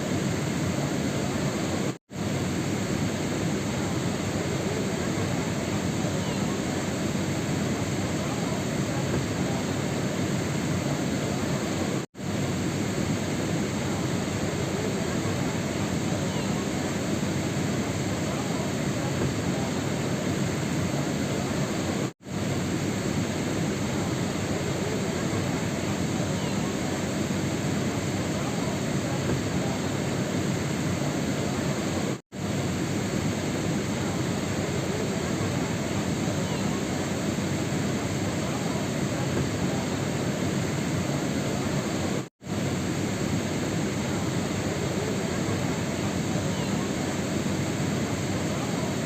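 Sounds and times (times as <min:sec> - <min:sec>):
steady rain: 0:00.0 - 0:49.0.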